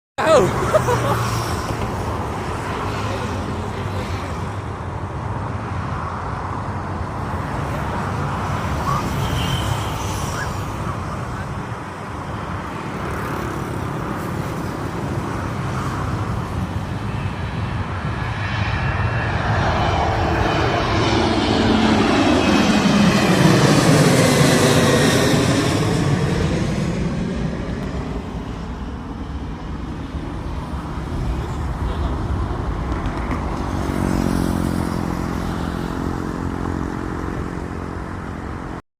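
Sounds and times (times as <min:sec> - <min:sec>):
jet airliner passing by: 0:00.2 - 0:38.8.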